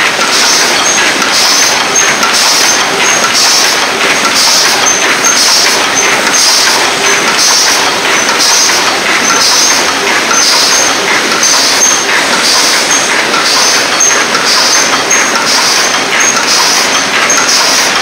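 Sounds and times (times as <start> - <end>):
machine clatter: 0.0 - 18.0.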